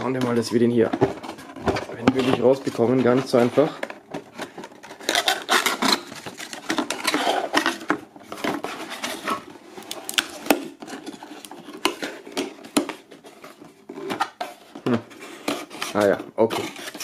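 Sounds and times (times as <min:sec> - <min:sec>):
cardboard scraping and rubbing: 0:00.0 - 0:17.0.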